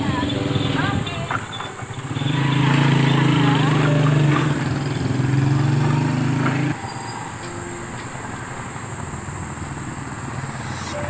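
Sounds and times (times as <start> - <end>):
engine running with low hum: 0.0 - 6.8, 7.5 - 11.0
street noise: 0.0 - 11.0.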